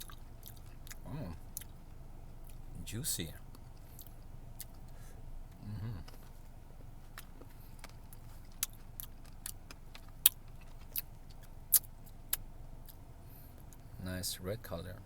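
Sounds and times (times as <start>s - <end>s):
wet chewing clicks and smacks: 0.0s - 2.8s, 3.4s - 13.9s
steady low hum: 0.0s - 15.0s.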